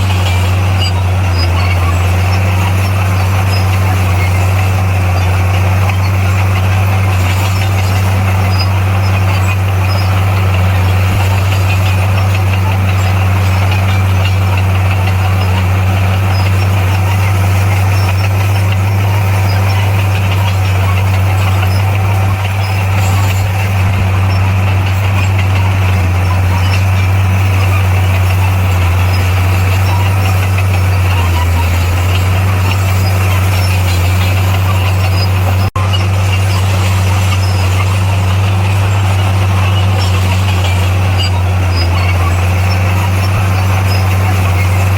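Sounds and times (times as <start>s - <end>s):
bulldozer diesel engine droning: 0.0s - 44.9s.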